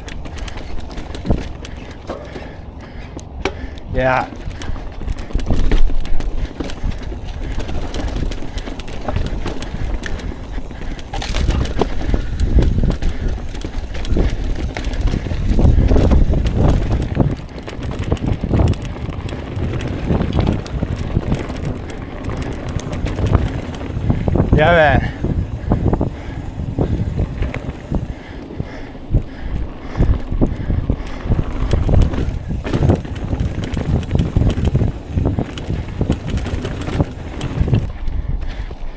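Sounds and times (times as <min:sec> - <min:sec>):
bike rattling over rocks: 0:00.0 - 0:38.9
wind rumble on microphone: 0:00.0 - 0:38.9.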